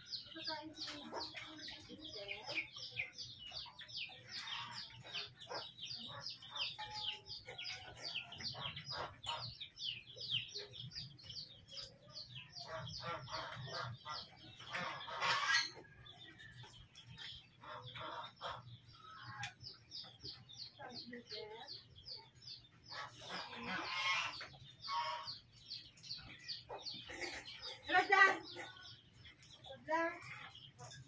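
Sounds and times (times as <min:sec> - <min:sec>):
chickens chirping: 0:00.0 - 0:31.0.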